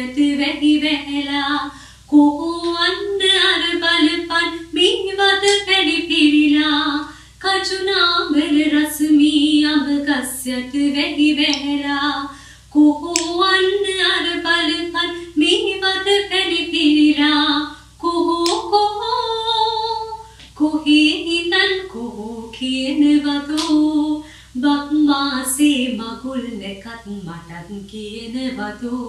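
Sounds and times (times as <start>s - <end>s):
woman singing unaccompanied: 0.0s - 29.0s.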